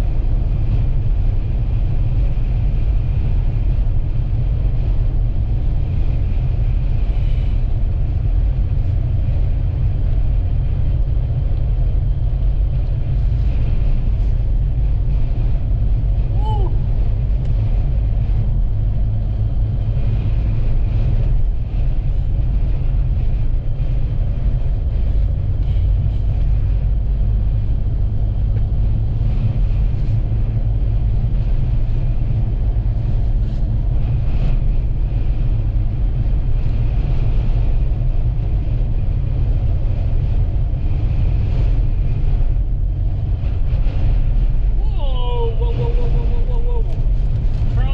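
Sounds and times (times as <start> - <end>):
vehicle driving on highway: 0.0 - 47.9.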